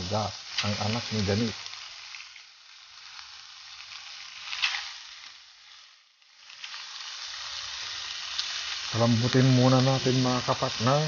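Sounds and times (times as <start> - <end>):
meat sizzling in a pan: 0.0 - 11.0
sharp crackle of fat: 0.0 - 11.0.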